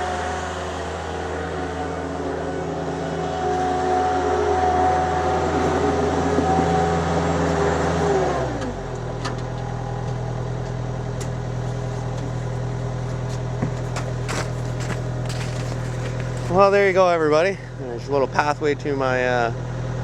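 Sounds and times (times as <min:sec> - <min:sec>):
skid steer engine running: 0:00.0 - 0:20.0.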